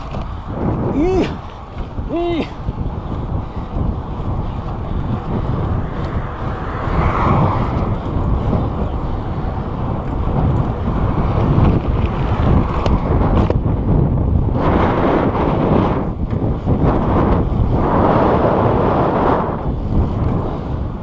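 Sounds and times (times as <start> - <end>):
road traffic rumble: 0.0 - 21.0
wind buffeting microphone: 0.0 - 21.0.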